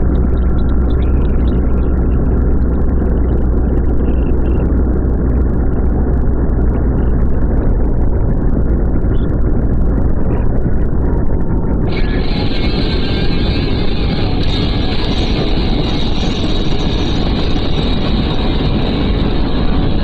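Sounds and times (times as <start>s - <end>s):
motorcycle engine rumble: 0.0s - 20.0s
wind rush on microphone: 0.0s - 20.0s.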